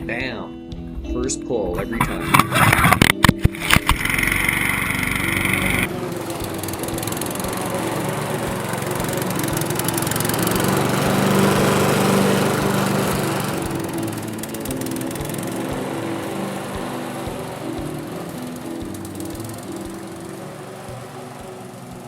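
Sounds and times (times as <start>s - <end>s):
lawn mower engine running: 2.0s - 22.0s.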